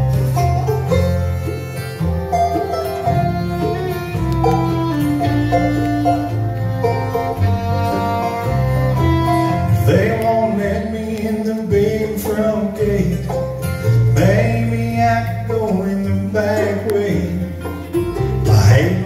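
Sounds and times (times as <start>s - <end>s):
acoustic guitar: 0.0s - 19.0s
banjo: 0.0s - 19.0s
fiddle: 0.0s - 19.0s
mandolin: 0.0s - 19.0s
upright bass: 0.0s - 19.0s.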